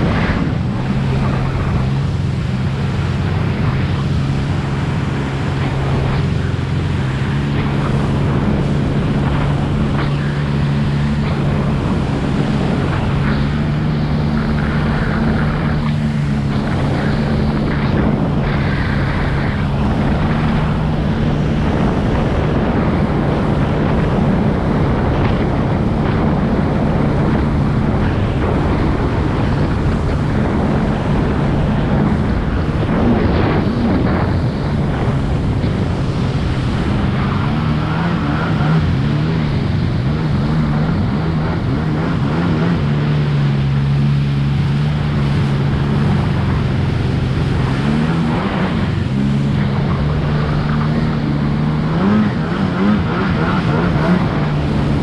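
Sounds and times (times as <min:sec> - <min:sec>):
jetski engine running: 0:00.0 - 0:55.0
wind buffeting microphone: 0:00.0 - 0:55.0.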